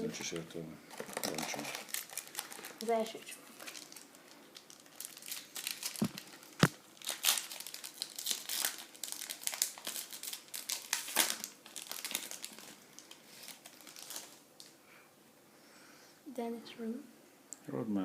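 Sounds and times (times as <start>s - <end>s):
wrapper crinkling: 0.0s - 14.8s.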